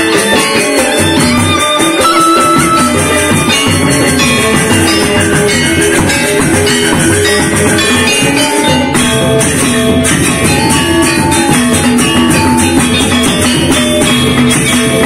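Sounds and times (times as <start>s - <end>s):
hand-played drum: 0.0s - 15.0s
metallophones struck with mallets: 0.0s - 15.0s.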